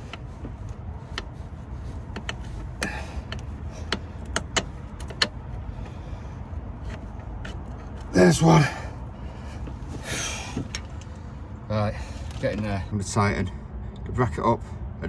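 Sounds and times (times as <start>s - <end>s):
metal scrape: 0.0s - 12.8s
low steady rumble: 0.0s - 13.6s.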